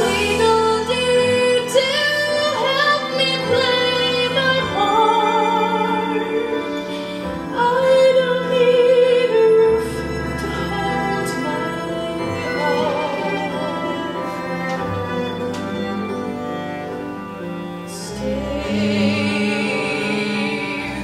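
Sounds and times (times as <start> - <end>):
sustained instrumental accompaniment: 0.0 - 21.0.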